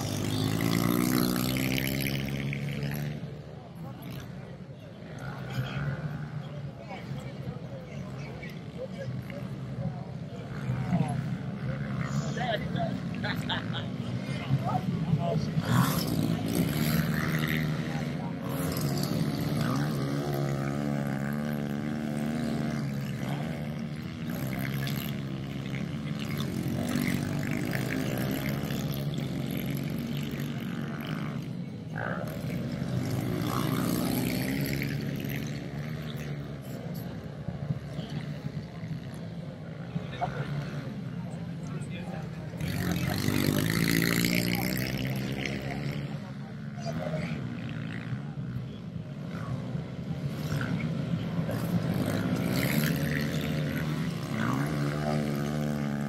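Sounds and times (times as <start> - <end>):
small motorbike engines revving: 0.0 - 56.0.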